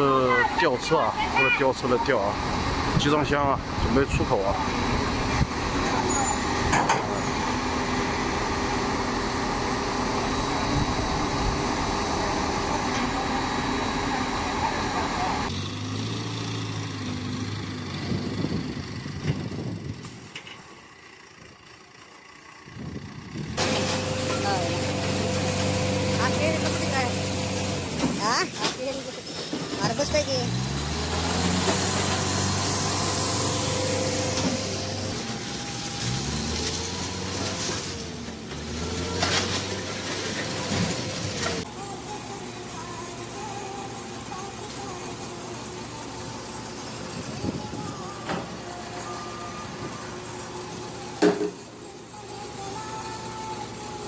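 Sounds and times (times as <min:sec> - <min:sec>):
heavy machinery engine drone: 0:00.0 - 0:54.0.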